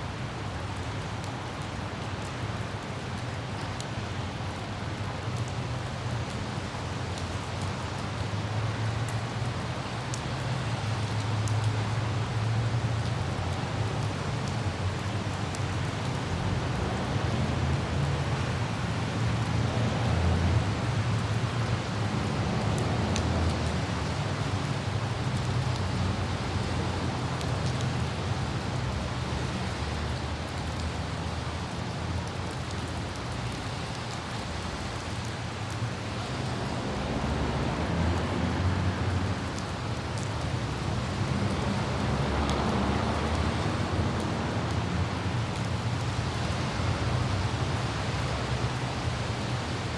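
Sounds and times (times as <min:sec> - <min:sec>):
car driving on wet roads: 0:00.0 - 0:49.9
faint raindrop ticks: 0:00.0 - 0:49.9
light rain hiss: 0:00.0 - 0:49.9
wind: 0:00.0 - 0:49.9.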